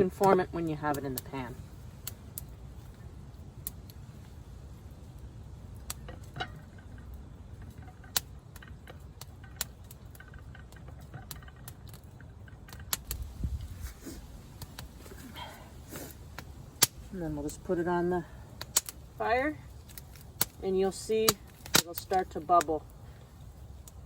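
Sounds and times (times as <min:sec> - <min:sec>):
campfire crackling: 0:00.0 - 0:24.0
low steady rumble: 0:00.0 - 0:24.0.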